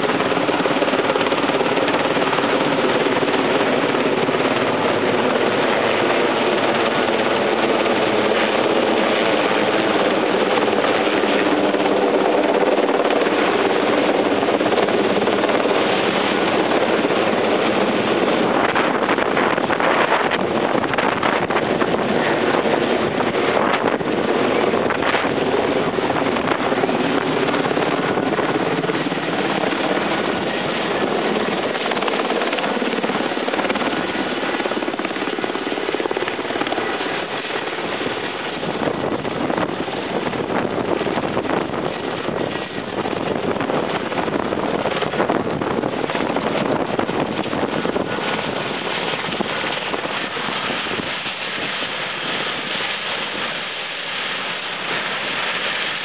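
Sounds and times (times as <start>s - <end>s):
helicopter rotor and turbines: 0.0s - 56.0s.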